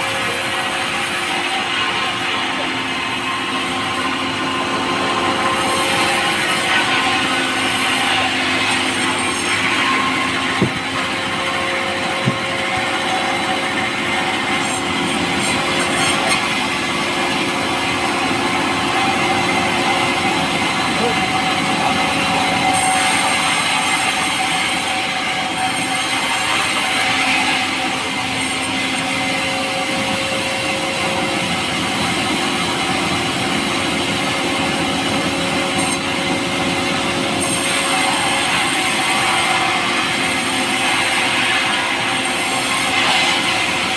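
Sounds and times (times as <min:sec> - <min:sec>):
power saw cutting log: 0:00.0 - 0:43.9.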